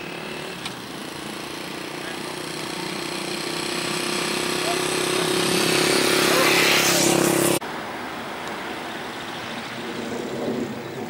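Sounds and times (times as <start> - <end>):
engine drone: 0.0 - 11.0
outdoor background noise: 0.0 - 11.0.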